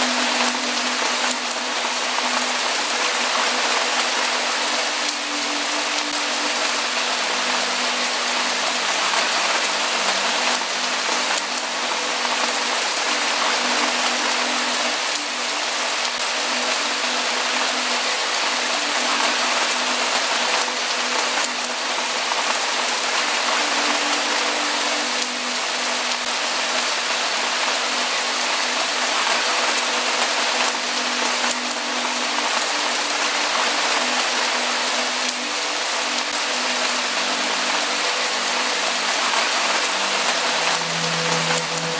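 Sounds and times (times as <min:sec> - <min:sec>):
heavy rainfall hiss: 0:00.0 - 0:41.9.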